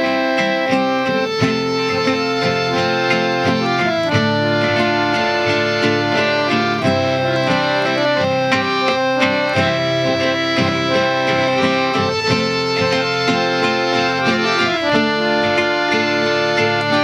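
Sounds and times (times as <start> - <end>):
harmonium playing: 0.0 - 17.0.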